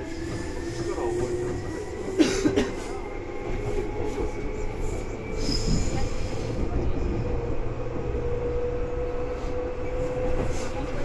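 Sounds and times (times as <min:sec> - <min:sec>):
train wheels low rumble: 0:00.0 - 0:11.0.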